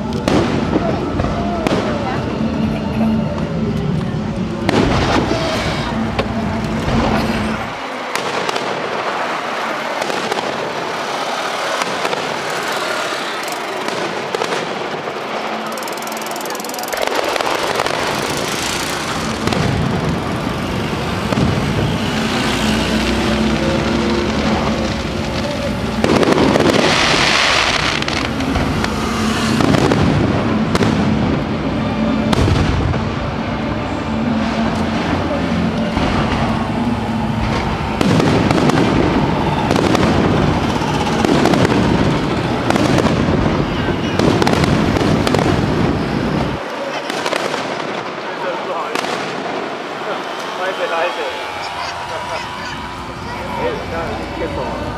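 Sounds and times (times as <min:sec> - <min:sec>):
firework booms and crackle: 0:00.0 - 0:02.6, 0:04.4 - 0:12.7, 0:13.7 - 0:15.7, 0:17.0 - 0:50.4.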